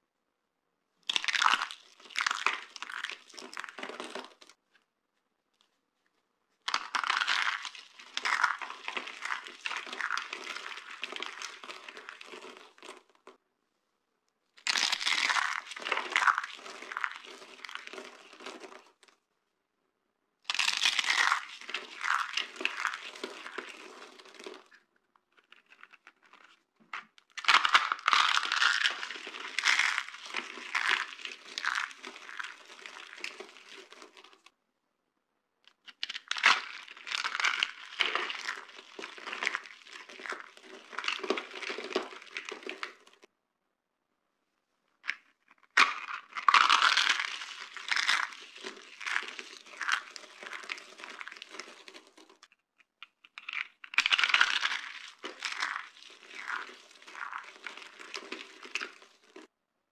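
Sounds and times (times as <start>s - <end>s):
dry soap crackling and crunching: 1.0s - 4.8s, 6.6s - 13.4s, 14.5s - 19.2s, 20.4s - 34.5s, 35.7s - 43.3s, 44.9s - 59.5s.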